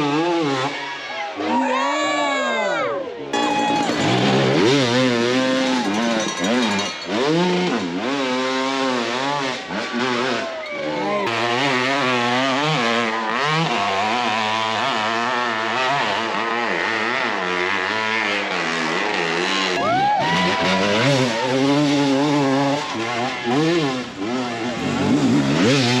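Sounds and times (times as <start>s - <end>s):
motorcycle engines revving: 0.0s - 1.8s, 3.2s - 26.0s.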